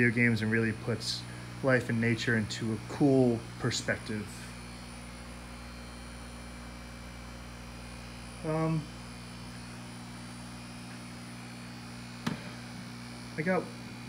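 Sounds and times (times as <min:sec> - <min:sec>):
aquarium air pumps humming: 0:00.0 - 0:14.0.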